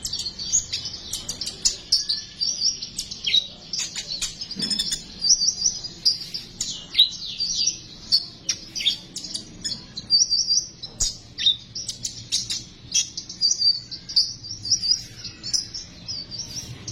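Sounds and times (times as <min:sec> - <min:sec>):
bird singing rapid chatter: 0:00.0 - 0:16.9.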